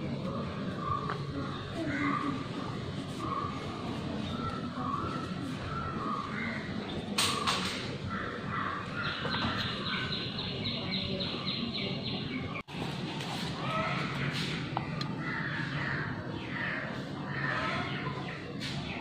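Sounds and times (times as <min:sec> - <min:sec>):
birds calling: 0:00.0 - 0:12.7, 0:13.5 - 0:19.0.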